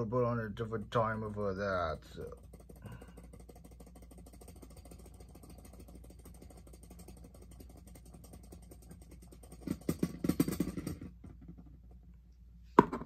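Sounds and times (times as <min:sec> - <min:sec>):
spinning top wobbling and clattering: 0:00.0 - 0:12.1
spinning top whirring: 0:00.9 - 0:11.5.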